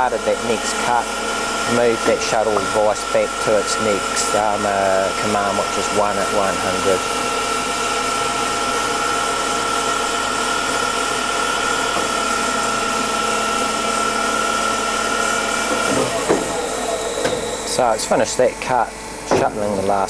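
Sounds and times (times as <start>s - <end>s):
bandsaw blade whine: 0.0s - 20.0s
low machine hum: 0.0s - 20.0s.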